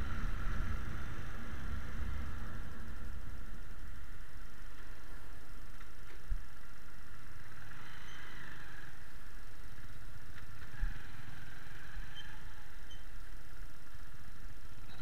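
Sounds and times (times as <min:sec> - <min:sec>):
engines idling: 0:00.0 - 0:15.0.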